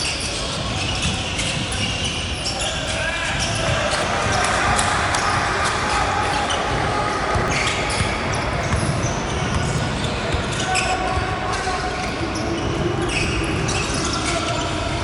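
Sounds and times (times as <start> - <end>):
indistinct voices: 0.0 - 15.0
basketball bouncing on court: 0.1 - 14.9.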